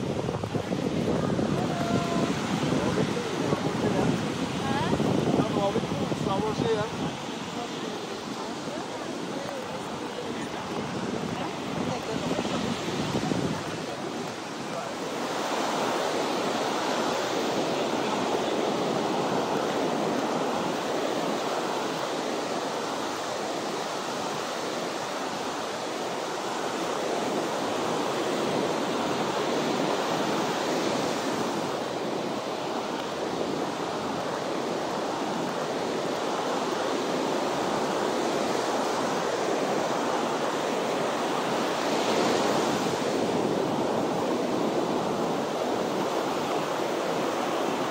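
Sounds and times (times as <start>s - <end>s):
ocean waves breaking: 0.0s - 47.9s.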